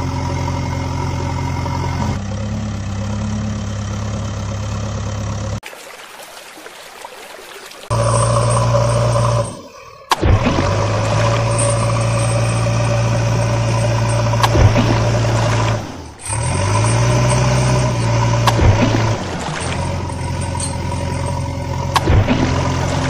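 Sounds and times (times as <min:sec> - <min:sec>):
truck engine idling and revving: 0:00.0 - 0:05.6, 0:07.9 - 0:23.0.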